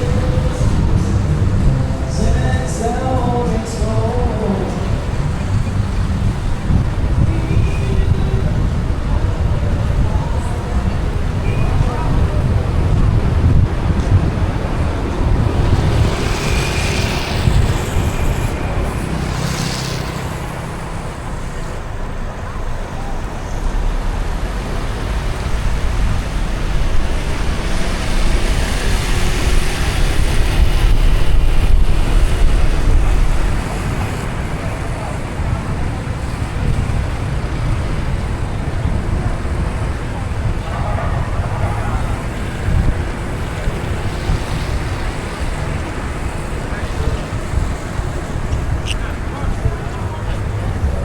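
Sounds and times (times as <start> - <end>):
deeper rumble: 0.0 - 51.0
road traffic rumble: 0.0 - 51.0.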